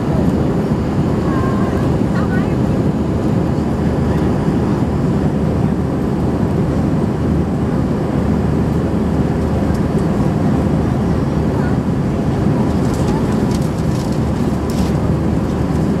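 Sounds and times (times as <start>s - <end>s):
jet airliner cabin roar: 0.0s - 16.0s.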